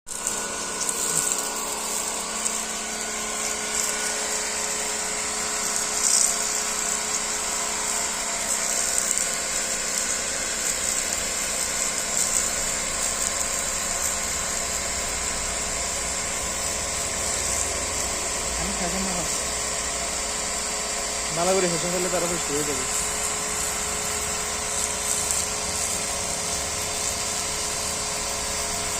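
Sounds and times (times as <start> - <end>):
high hiss: 0.1 - 20.2, 20.9 - 28.9.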